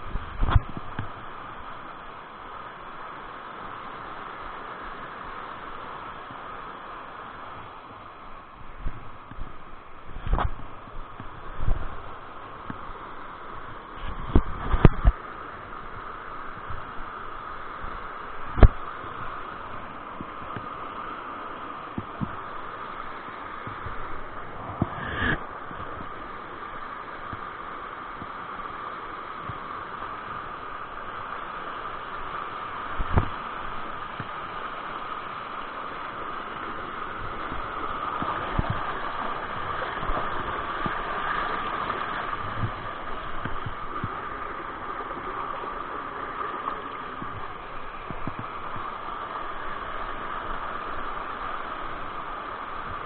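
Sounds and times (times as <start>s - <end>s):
river water rushing over boulders: 0.0s - 53.0s.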